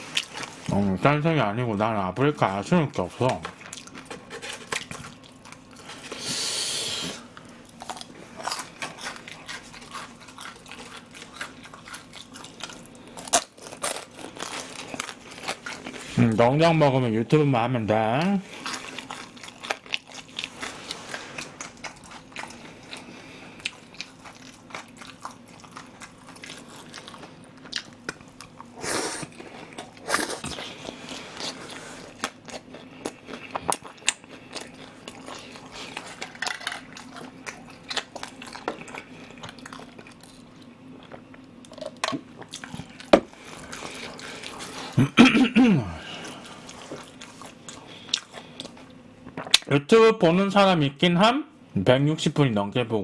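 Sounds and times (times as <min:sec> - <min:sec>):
chewing crispy fried meat: 0:00.0 - 0:45.2, 0:45.8 - 0:49.7
faint steady hum: 0:00.0 - 0:53.0.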